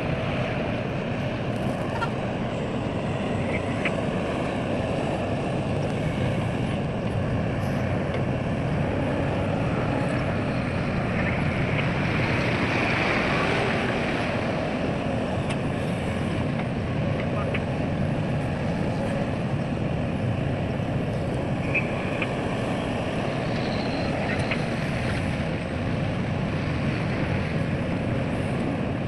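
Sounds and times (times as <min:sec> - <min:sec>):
diesel engine rumble: 0:00.0 - 0:29.0.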